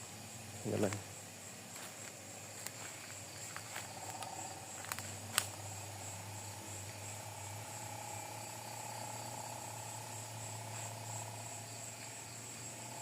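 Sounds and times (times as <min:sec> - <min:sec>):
high insect chirring: 0:00.0 - 0:13.0
low pulsing insect trill: 0:00.0 - 0:13.0.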